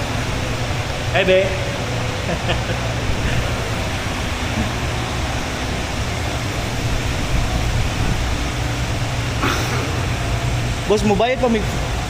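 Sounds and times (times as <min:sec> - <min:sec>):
machinery rumble and hiss: 0:00.0 - 0:12.0.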